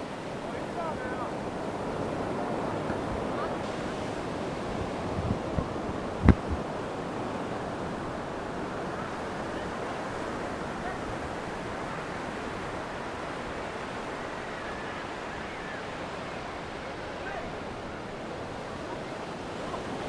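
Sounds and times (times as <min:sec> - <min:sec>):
sea surf breaking on beach: 0:00.0 - 0:20.0
wind on microphone: 0:00.0 - 0:20.0.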